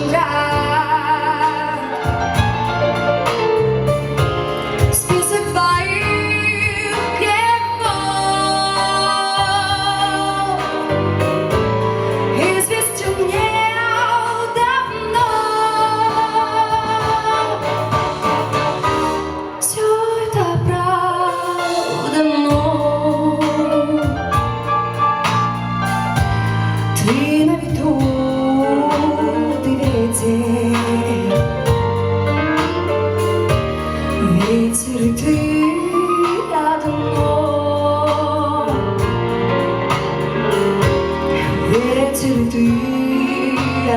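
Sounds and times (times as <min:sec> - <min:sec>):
woman singing: 0:00.0 - 0:03.4, 0:04.8 - 0:18.1, 0:19.4 - 0:25.5, 0:26.2 - 0:43.9
instrumental accompaniment: 0:00.0 - 0:43.9.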